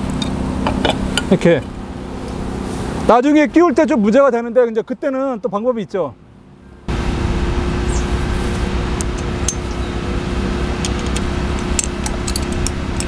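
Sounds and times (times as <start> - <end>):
low hum with faint tone: 0.0 - 13.0.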